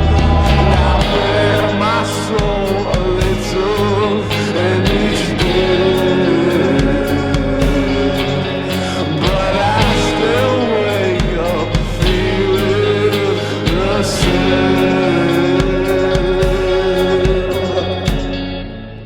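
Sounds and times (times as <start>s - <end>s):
rock band music: 0.0s - 19.0s.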